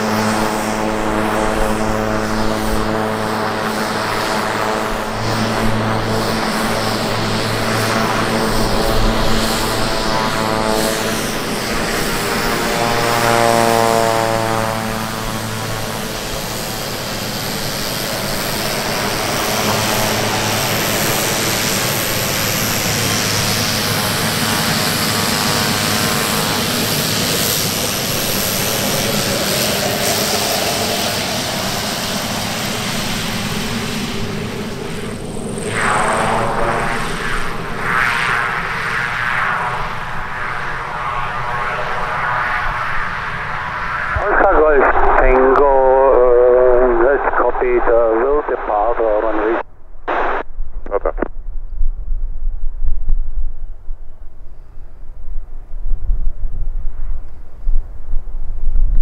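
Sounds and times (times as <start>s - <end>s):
turboprop propeller drone: 0.0s - 50.4s.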